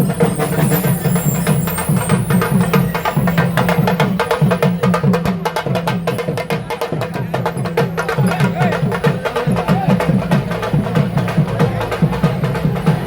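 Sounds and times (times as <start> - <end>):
drums played in fast rhythm: 0.0 - 13.0.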